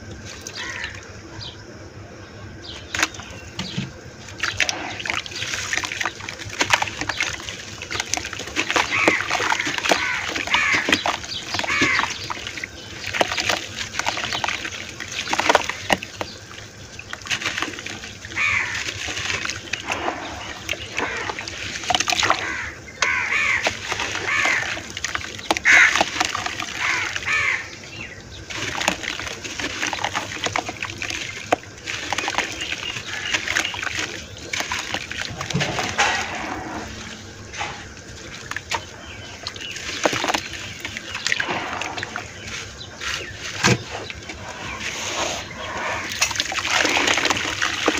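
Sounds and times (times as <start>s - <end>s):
wet dirt crunching: 0.0s - 1.6s, 2.6s - 47.9s
muddy water splashing: 0.0s - 47.9s.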